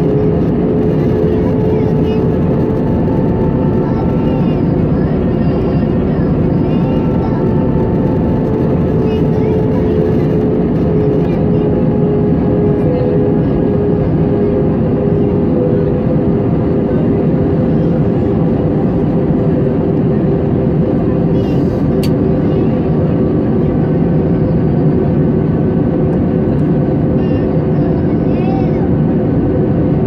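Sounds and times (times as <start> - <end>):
constant hum: 0.0 - 30.0
jet engines and rushing air: 0.0 - 30.0.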